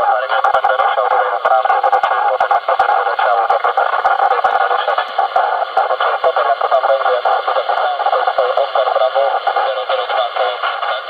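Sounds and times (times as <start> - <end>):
radio static crackles: 0.0 - 11.0
voice over radio speaker: 0.0 - 11.0.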